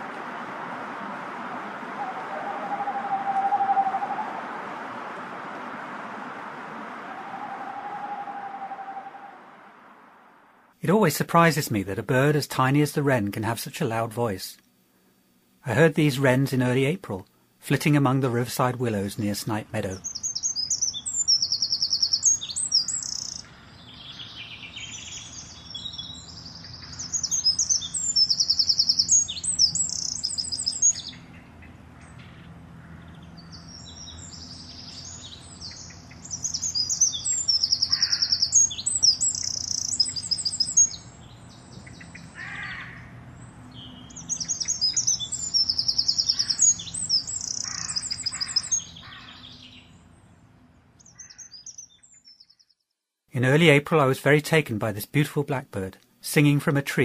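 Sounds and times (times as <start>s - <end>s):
wrens trilling song: 0.0s - 14.5s, 15.1s - 57.0s.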